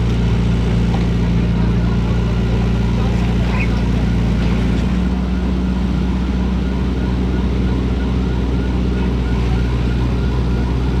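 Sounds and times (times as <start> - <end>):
vehicle droning: 0.0 - 11.0.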